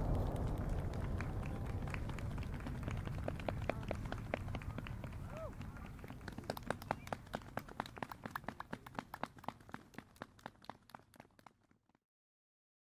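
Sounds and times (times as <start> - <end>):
spectators clapping: 0.0 - 12.0.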